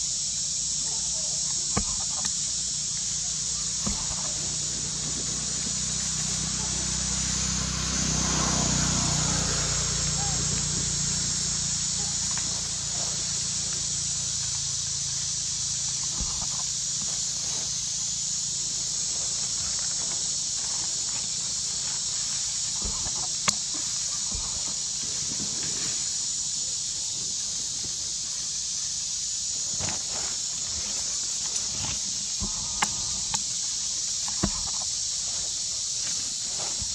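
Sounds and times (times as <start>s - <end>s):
high-pitched insect drone: 0.0s - 36.9s.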